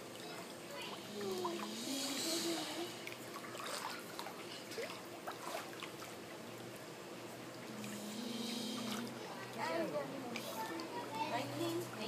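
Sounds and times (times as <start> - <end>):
pool water sloshing and splashing: 0.0 - 12.0.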